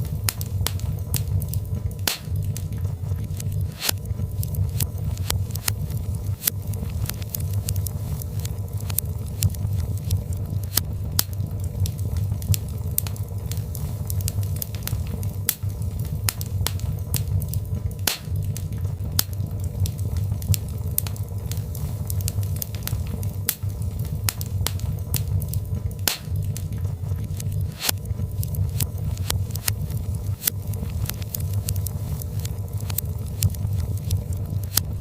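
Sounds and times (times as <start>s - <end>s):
fire crackling in a fireplace: 0.0s - 35.0s
low rumble of burning logs: 0.0s - 35.0s.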